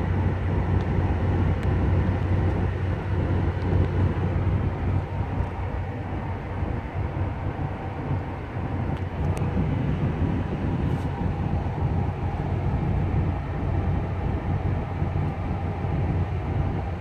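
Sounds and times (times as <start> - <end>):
car engine rumble: 0.0 - 17.0
road noise inside car cabin: 0.0 - 17.0.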